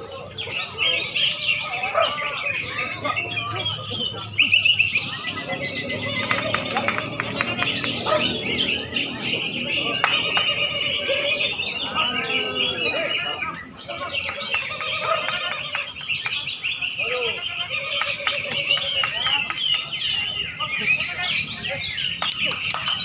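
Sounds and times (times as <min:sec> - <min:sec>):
caged songbirds chorus: 0:00.0 - 0:23.0.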